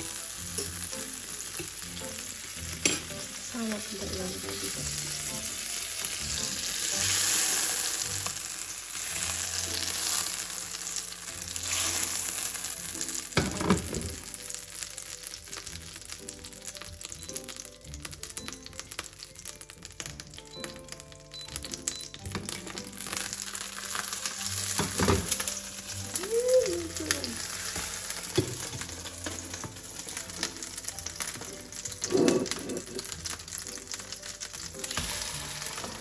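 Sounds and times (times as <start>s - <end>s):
butter sizzling in a frying pan: 0.0s - 36.0s.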